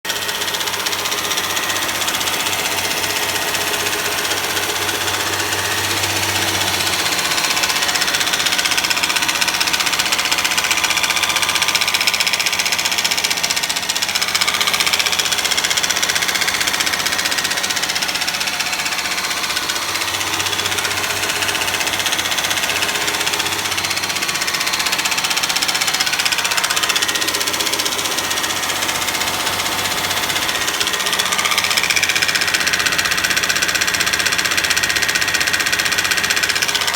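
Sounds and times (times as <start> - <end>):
engine running with knock: 0.1 - 36.9.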